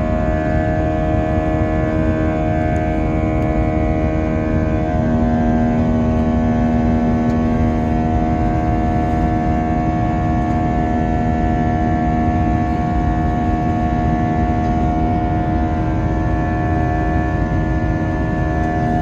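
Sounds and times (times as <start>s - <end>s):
jet engine cabin drone: 0.0s - 19.0s
steady humming tones: 0.0s - 19.0s.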